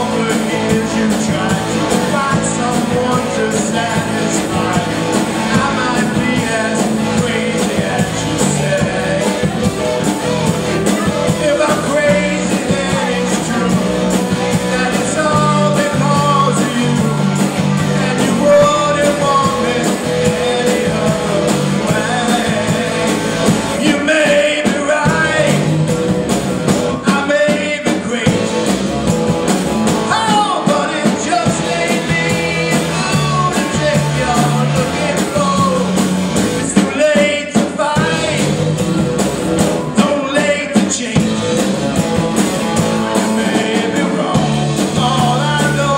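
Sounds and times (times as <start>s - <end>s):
person singing: 0.0s - 26.0s, 26.8s - 29.2s, 29.9s - 45.9s
rock band playing: 0.0s - 45.9s.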